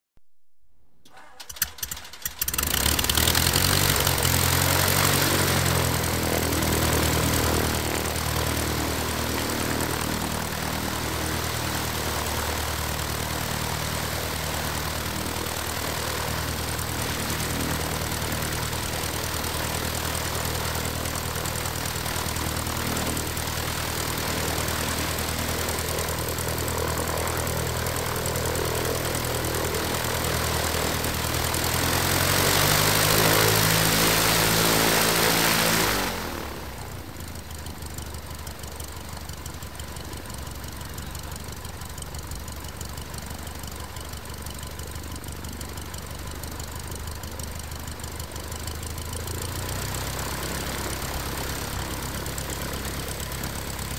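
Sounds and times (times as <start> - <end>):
aircraft engine drone: 1.1 - 53.9.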